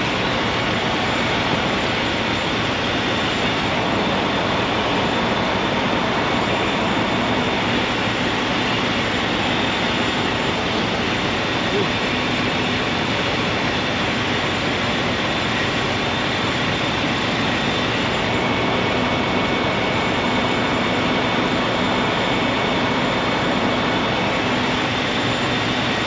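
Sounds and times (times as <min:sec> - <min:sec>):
blizzard wind on microphone: 0:00.0 - 0:26.0.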